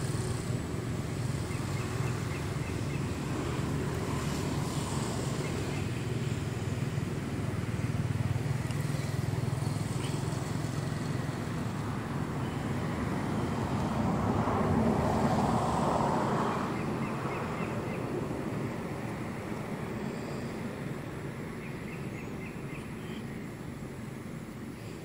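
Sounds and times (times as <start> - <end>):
vehicle passing by: 0.0 - 20.8
low traffic rumble: 0.0 - 25.0.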